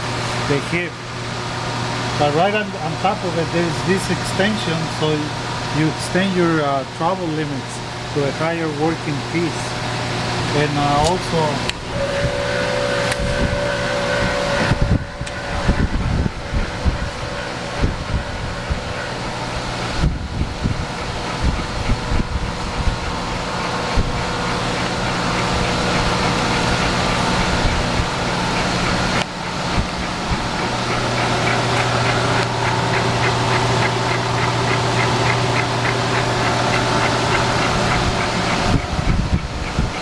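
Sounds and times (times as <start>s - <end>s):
fast rhythmic whirr: 0.0s - 40.0s
milling machine motor hum: 0.0s - 40.0s.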